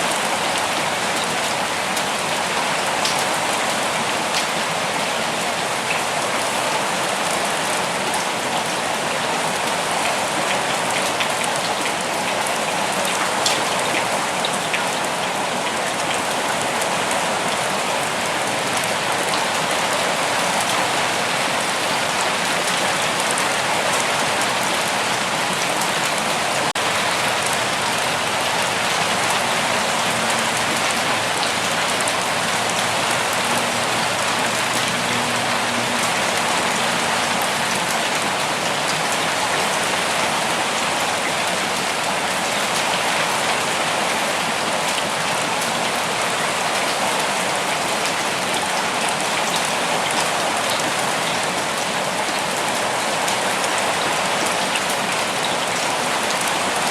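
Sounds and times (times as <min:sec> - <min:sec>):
rain pattering on surfaces: 0:00.0 - 0:56.9.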